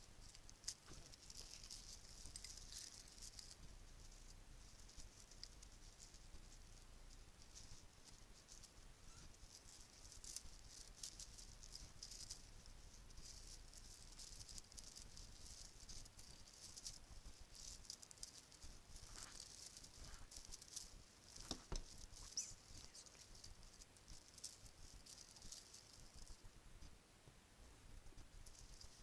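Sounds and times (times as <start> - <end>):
bracelets rattling and jingling: 0.2 - 6.6, 9.4 - 26.4, 28.4 - 29.0.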